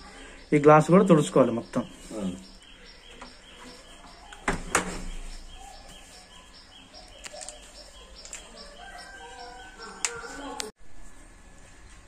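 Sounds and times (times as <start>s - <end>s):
faint high chirping: 0.0s - 10.7s.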